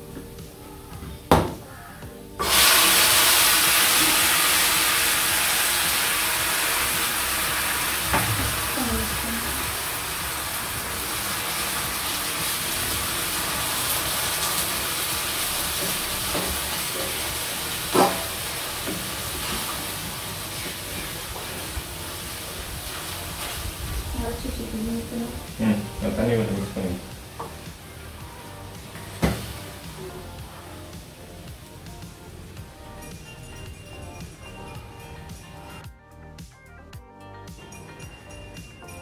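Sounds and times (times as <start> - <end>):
sauce sizzling in a pan: 2.4 - 35.7.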